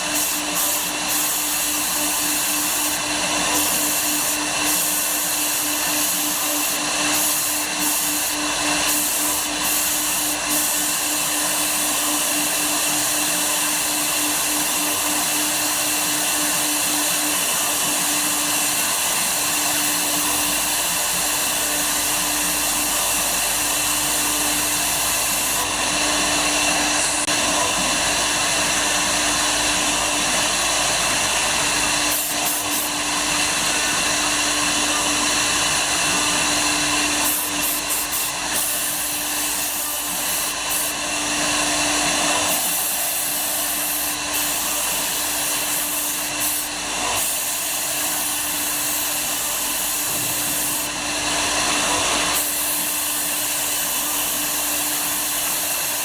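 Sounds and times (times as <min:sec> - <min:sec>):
cnc router whirring: 0:00.0 - 0:56.0.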